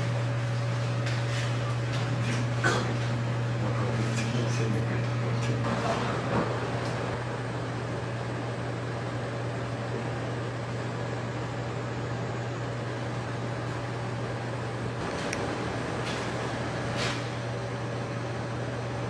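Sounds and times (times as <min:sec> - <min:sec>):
air-handling machinery hum: 0:00.0 - 0:19.0.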